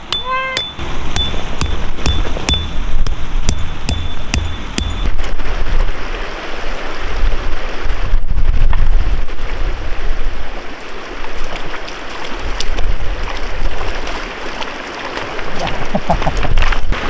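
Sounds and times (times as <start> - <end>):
river running over stones: 0.0 - 17.0
wind rumble on microphone: 0.8 - 17.0.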